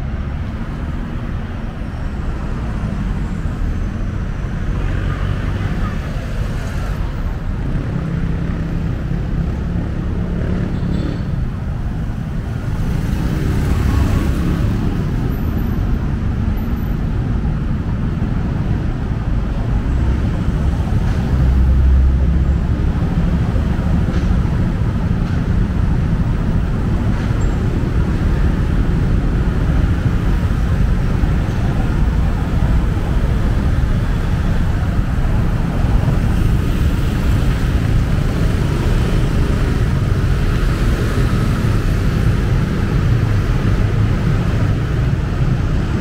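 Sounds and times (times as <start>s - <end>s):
cars and motorbikes passing: 0.0s - 46.0s.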